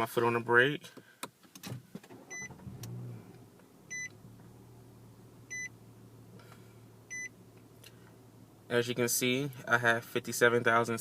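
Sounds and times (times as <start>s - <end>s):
car engine starting and idling: 1.5s - 11.0s.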